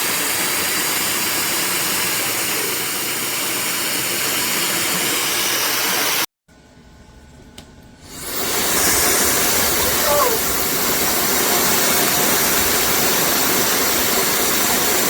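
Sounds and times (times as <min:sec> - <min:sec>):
hair dryer blowing air: 0:00.0 - 0:06.3, 0:08.0 - 0:15.0.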